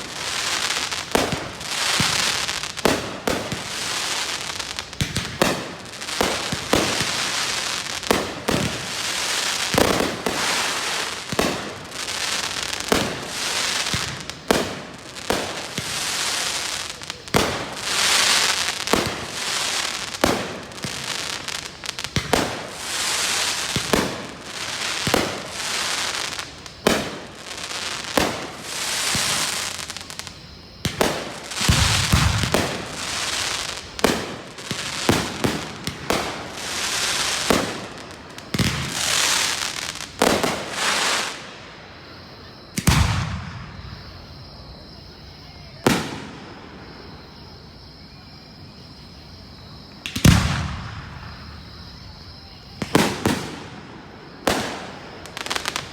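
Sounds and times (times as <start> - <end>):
firework bangs: 0.0 - 41.8, 42.7 - 47.3, 50.0 - 55.9.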